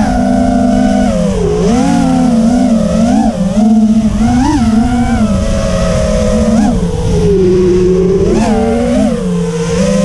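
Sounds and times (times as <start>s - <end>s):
drone motors whining: 0.0s - 10.0s
wind rush on microphone: 0.0s - 10.0s.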